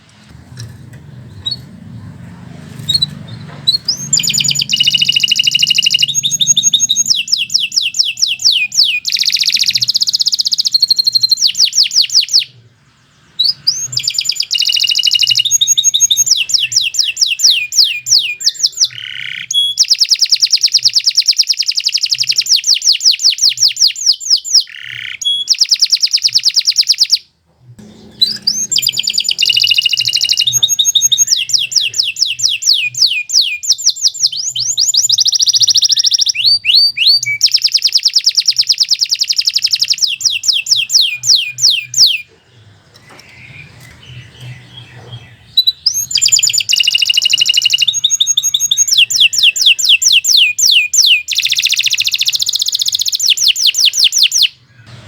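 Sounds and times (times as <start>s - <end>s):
canary singing trills: 1.0s - 55.0s.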